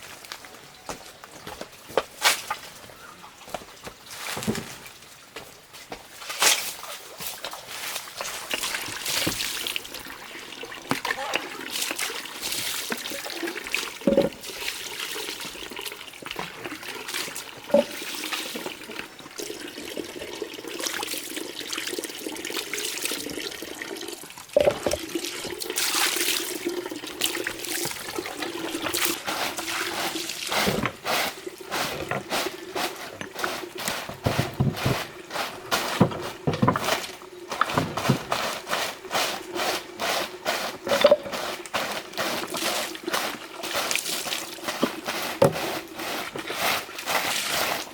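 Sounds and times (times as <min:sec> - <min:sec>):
water running and splashing: 0:06.2 - 0:47.9.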